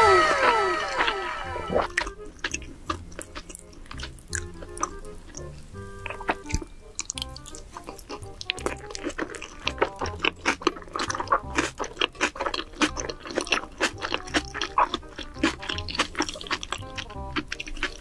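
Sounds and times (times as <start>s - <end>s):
soft background music with beat: 1.7s - 18.0s
wet chewing and mouth clicks: 1.7s - 18.0s.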